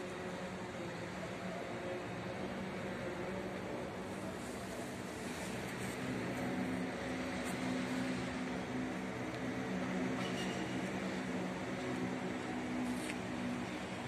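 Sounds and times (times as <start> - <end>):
steady low mechanical hum: 0.0 - 14.0.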